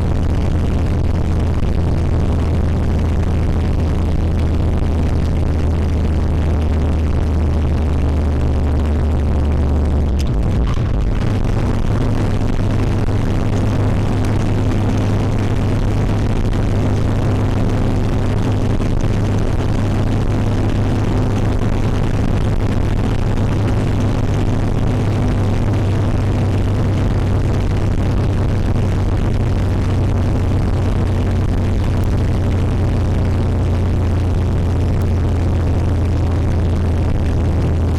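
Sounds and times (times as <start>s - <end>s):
vehicle engine droning: 0.0s - 37.9s.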